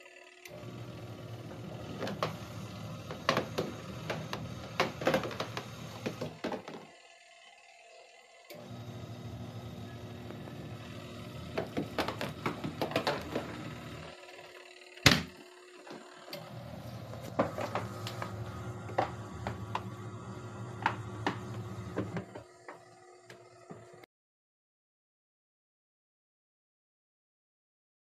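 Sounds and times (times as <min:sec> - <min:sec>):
washing machine motor humming: 0:00.0 - 0:24.1.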